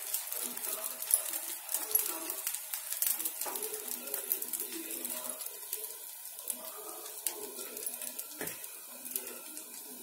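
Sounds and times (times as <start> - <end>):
batter sizzling on iron griddle: 0.0 - 10.0.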